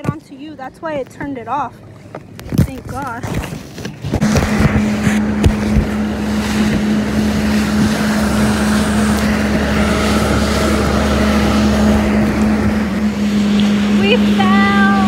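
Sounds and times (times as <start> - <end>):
jet ski engine running: 0.0 - 15.0
wind buffeting microphone: 0.0 - 15.0.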